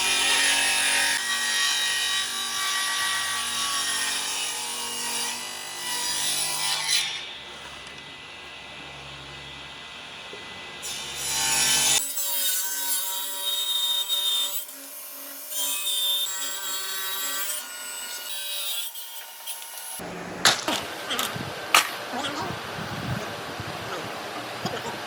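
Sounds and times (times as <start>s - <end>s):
power tools cutting wood: 0.0s - 8.2s, 9.0s - 25.0s.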